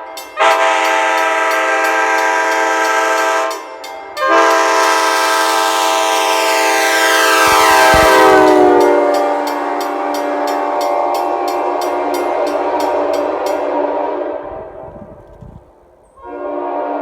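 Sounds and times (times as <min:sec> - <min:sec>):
train horn chord: 0:00.4 - 0:15.2, 0:16.2 - 0:17.0.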